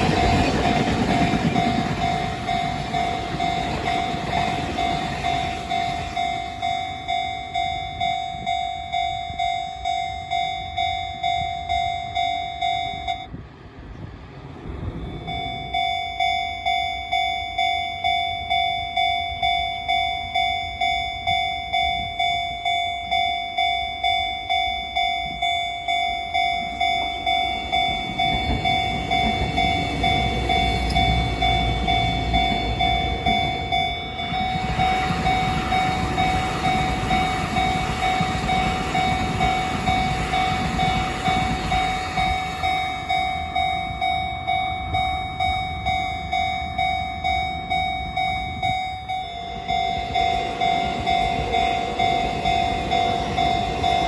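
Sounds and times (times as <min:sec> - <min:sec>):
level crossing warning bell: 0:00.0 - 0:13.5, 0:14.3 - 0:54.0
train wheels rumbling on rails: 0:00.0 - 0:54.0.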